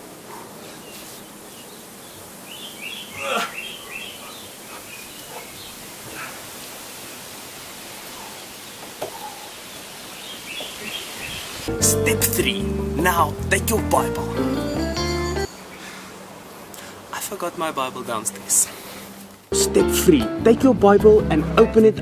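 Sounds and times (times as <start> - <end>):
birds chirping: 0.0 - 6.8, 7.8 - 19.4
outdoor background hiss: 0.0 - 22.0.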